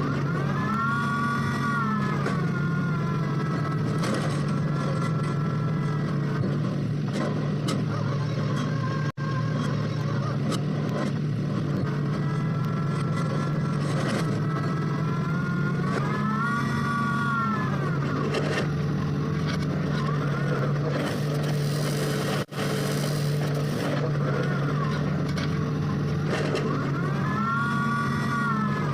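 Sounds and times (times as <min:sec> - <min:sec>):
drilling machine engine running: 0:00.0 - 0:28.9.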